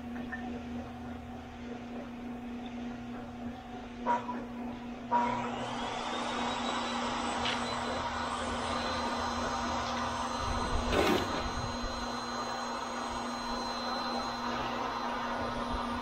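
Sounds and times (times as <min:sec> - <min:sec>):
cement mixer motor hum: 0:00.0 - 0:16.0.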